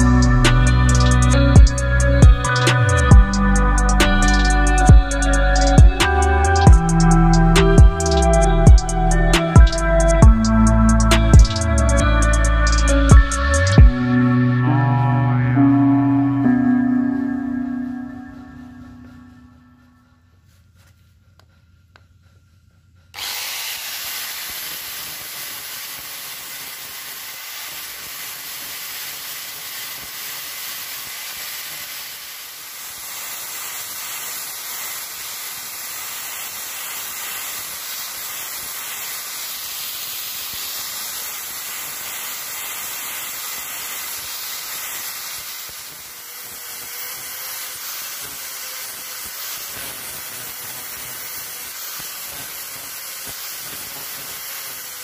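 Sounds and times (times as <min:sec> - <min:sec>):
angle grinder sanding wood: 0:00.0 - 0:22.1, 0:23.2 - 0:55.0.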